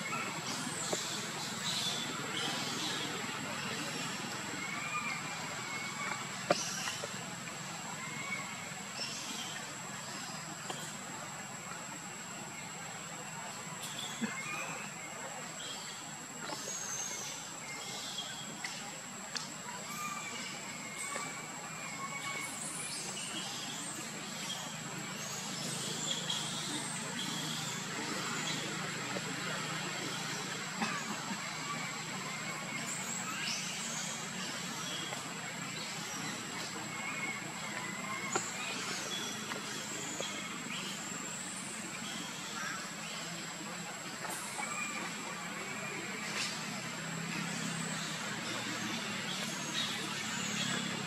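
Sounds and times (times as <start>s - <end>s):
background hum and hiss: 0.0s - 51.0s.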